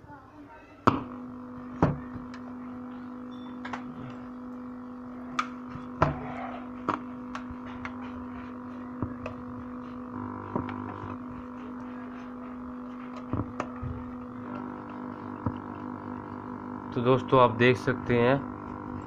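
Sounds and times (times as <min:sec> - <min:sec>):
electrical hum from speaker: 0:00.0 - 0:19.0.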